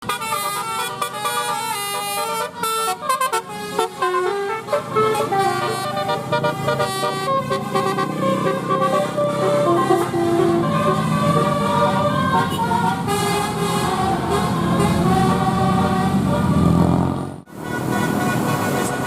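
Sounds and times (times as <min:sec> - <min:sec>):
air horns playing a melody: 0:00.0 - 0:16.8, 0:17.5 - 0:19.0.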